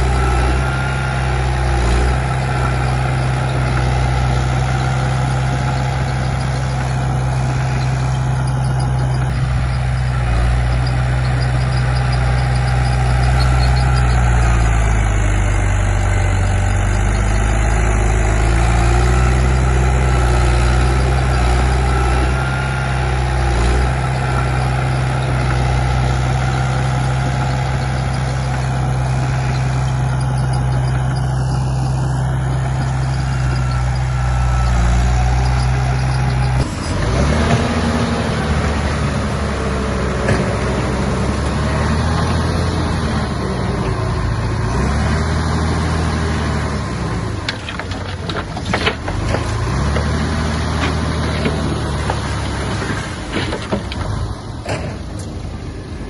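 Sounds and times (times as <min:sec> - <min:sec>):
diesel engine under varying load: 0:00.0 - 0:56.0.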